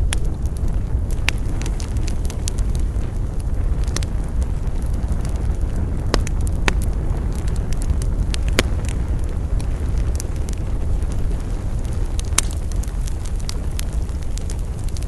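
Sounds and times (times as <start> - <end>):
campfire crackling: 0.0 - 15.0
fire low rumble: 0.0 - 15.0.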